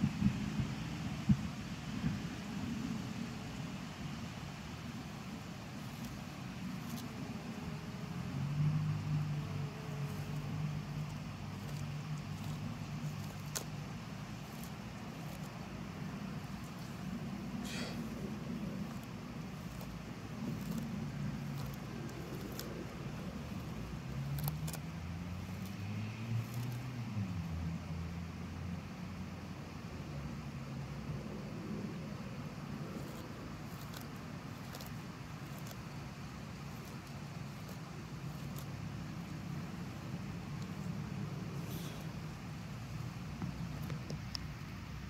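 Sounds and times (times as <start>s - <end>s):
background hiss: 0.0s - 45.0s
low engine hum: 0.0s - 45.0s
tortoise biting crunch: 0.2s - 28.8s, 29.6s - 45.0s.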